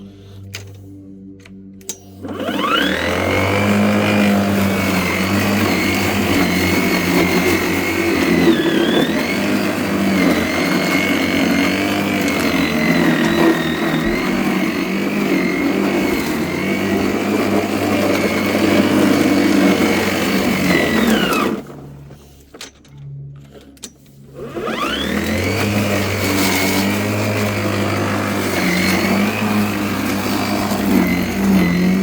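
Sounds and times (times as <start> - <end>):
electric lawnmower motor whining: 0.0 - 22.6, 23.5 - 32.0.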